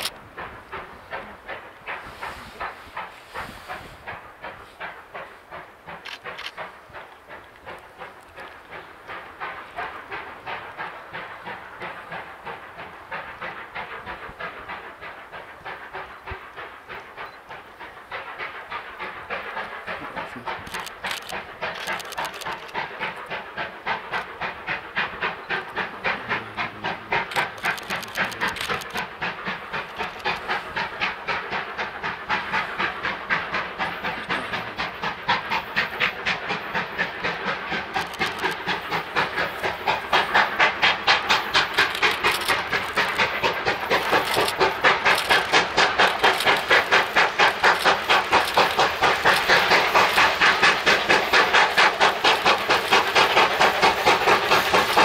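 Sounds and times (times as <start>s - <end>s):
steam hiss: 0.0s - 55.0s
steam locomotive chuffing: 0.0s - 55.0s.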